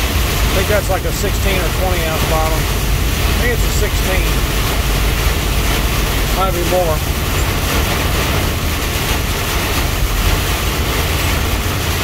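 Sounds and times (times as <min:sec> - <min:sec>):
heavy rain on windshield: 0:00.0 - 0:12.0
road and engine noise: 0:00.0 - 0:12.0.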